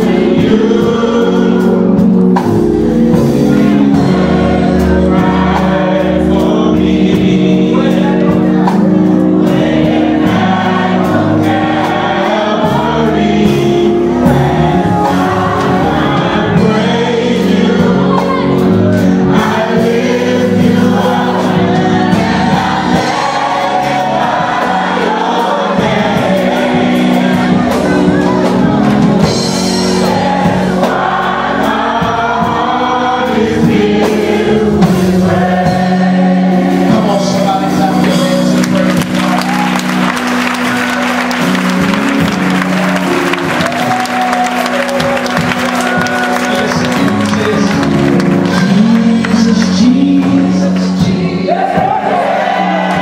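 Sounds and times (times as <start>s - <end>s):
choir singing: 0.0s - 53.0s
instrumental accompaniment with beat: 0.0s - 53.0s.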